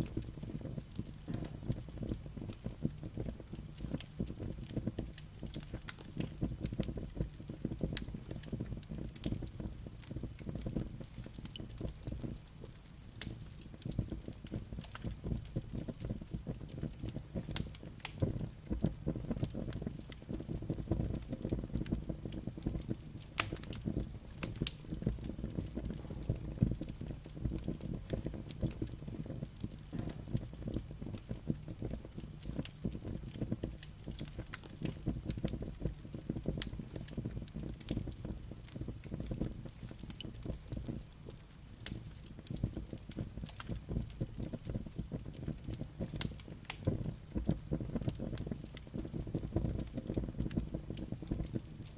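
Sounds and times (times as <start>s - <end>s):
crackles and pops of logs: 0.0s - 51.9s
fire burning in fireplace: 0.0s - 51.9s.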